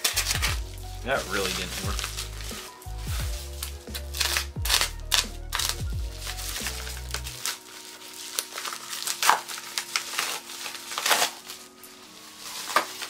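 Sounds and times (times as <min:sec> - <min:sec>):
padded envelope tearing: 0:00.0 - 0:13.0.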